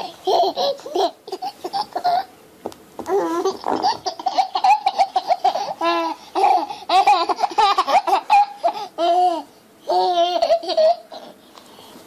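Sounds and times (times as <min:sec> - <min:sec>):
baby giggling: 0:00.0 - 0:02.3, 0:03.1 - 0:11.4.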